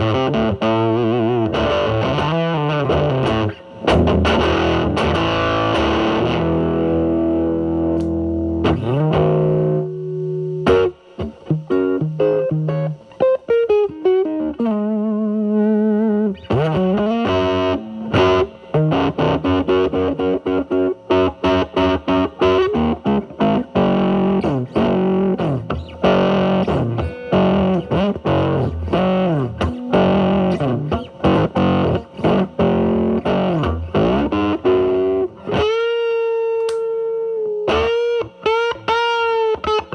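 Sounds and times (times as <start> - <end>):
fuzz electric guitar lead: 0.0 - 39.9.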